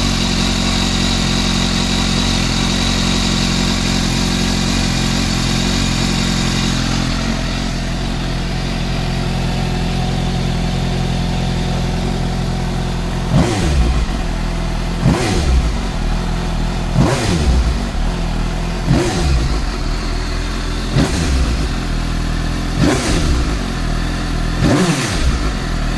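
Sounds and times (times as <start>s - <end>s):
engine revving: 0.0s - 25.9s
motorcycle engine idling: 0.0s - 25.9s.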